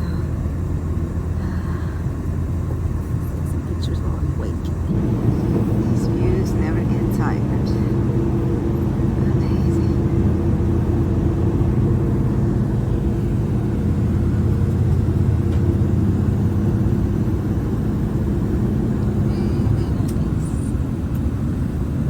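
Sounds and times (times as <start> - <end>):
train rumbling at speed: 0.0 - 22.0.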